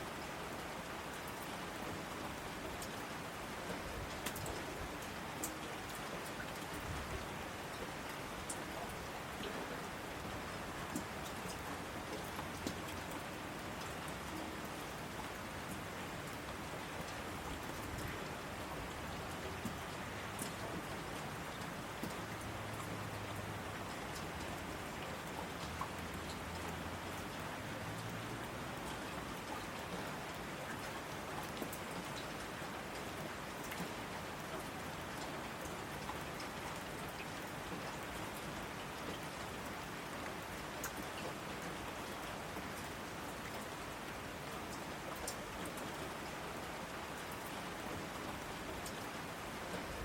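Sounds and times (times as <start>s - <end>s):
raindrops ticking on a surface: 0.0s - 50.0s
steady rain hiss: 0.0s - 50.0s.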